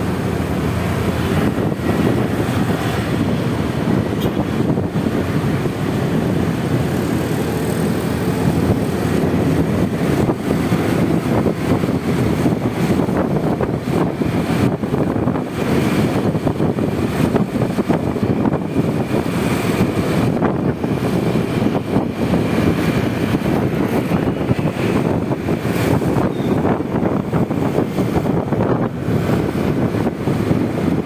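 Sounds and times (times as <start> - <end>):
road noise: 0.0 - 31.0
scooter engine running: 0.0 - 31.0
wind buffeting microphone: 0.0 - 31.0.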